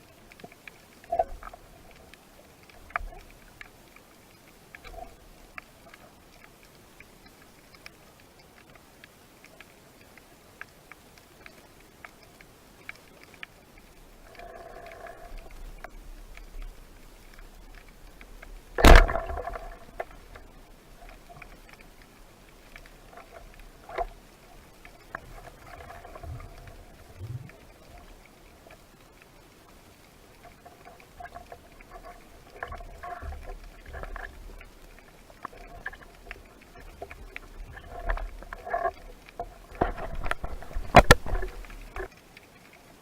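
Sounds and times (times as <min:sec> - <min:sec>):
underwater clicks and crackles: 0:00.0 - 0:43.0.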